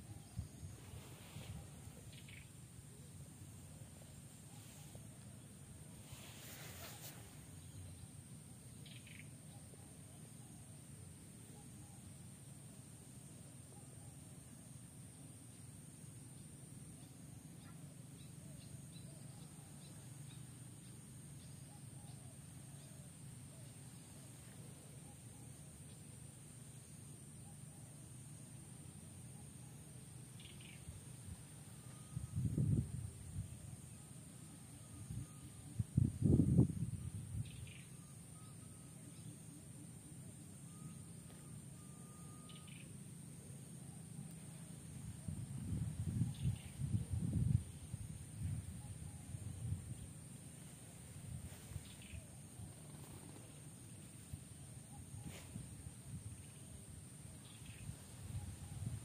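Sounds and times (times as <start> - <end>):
constant high-pitched tone: 0.0 - 59.0
faint bird chirps: 0.0 - 59.0.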